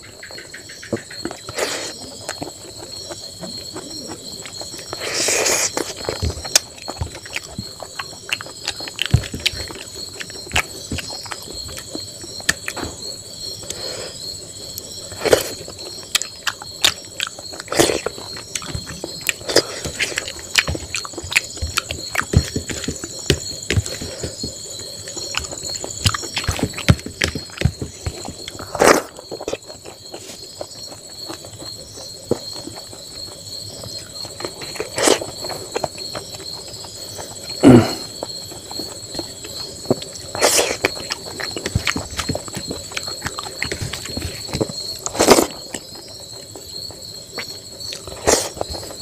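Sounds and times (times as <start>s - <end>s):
insect chirring: 0.0s - 49.0s
wet chewing: 0.9s - 49.0s.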